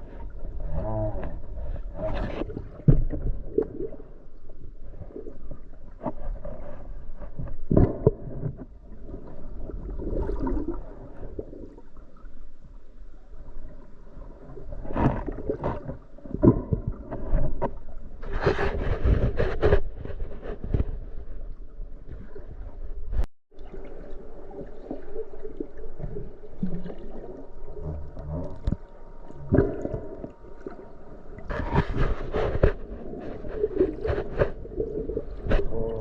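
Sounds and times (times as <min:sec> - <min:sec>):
water swishing underwater: 0:00.0 - 0:36.0.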